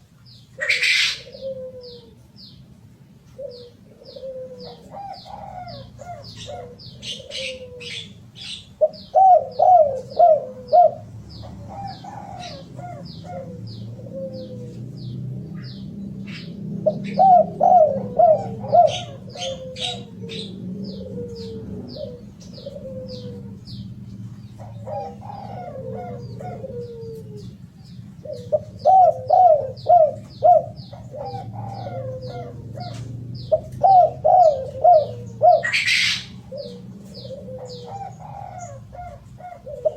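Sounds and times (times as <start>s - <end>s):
dove cooing: 0.0s - 2.5s, 3.2s - 39.9s.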